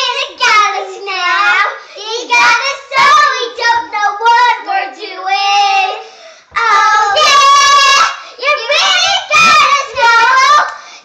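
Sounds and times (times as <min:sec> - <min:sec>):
children singing loudly: 0:00.0 - 0:10.8.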